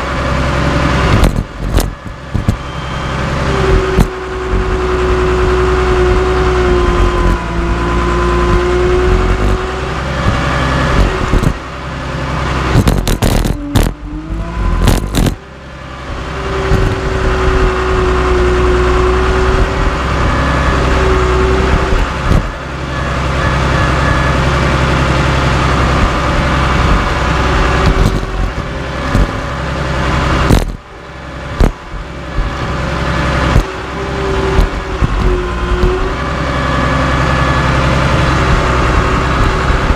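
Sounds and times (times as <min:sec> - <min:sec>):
dozer diesel engine running hard: 0:00.0 - 0:39.9.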